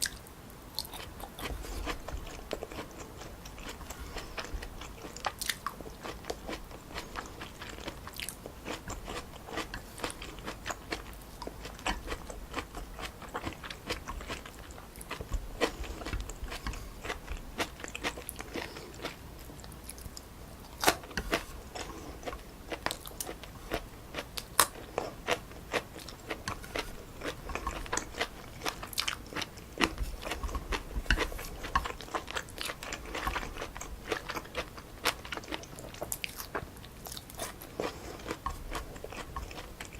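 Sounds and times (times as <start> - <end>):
chewing noodles with mouth clicks: 0.0 - 39.9.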